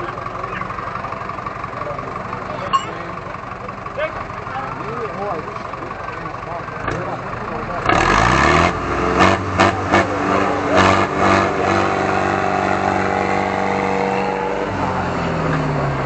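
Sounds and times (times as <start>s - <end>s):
tractor diesel engines revving: 0.0s - 16.0s.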